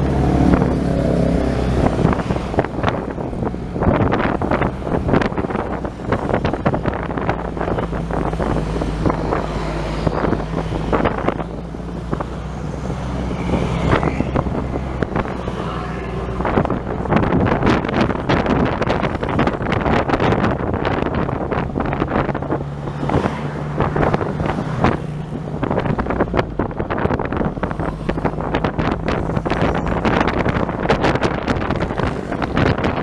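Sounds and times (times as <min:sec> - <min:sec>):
road noise: 0:00.0 - 0:33.0
vehicle engine hum: 0:00.0 - 0:33.0
wind buffeting microphone: 0:00.0 - 0:33.0.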